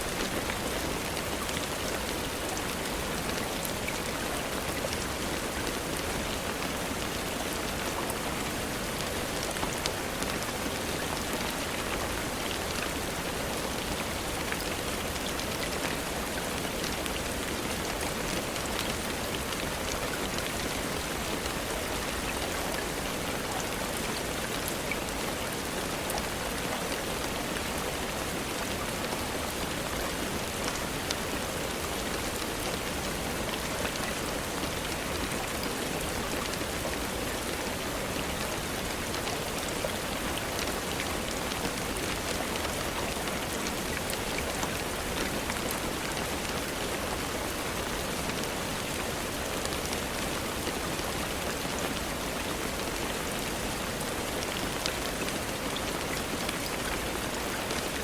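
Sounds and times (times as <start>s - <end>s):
small sharp rain ticks: 0.0s - 58.0s
steady rain falling: 0.0s - 58.0s.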